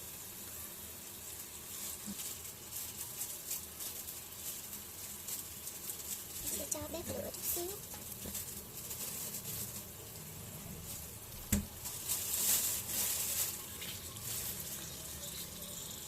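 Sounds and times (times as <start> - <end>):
chicken frying in oil: 0.0 - 16.0.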